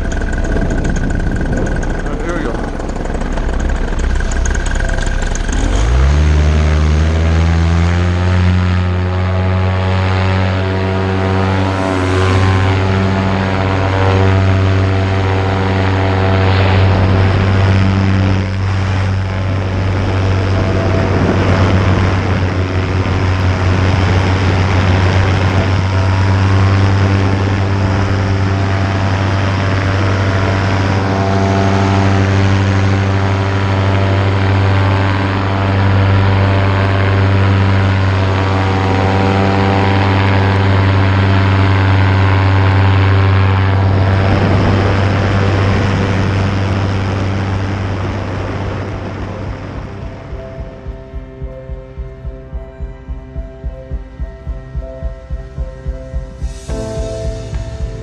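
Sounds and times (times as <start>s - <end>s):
paramotor engine and propeller revving: 0.0s - 52.6s.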